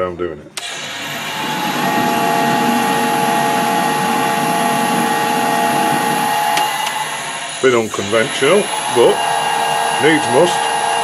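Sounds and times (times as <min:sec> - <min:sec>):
metal lathe whining: 0:00.6 - 0:11.0.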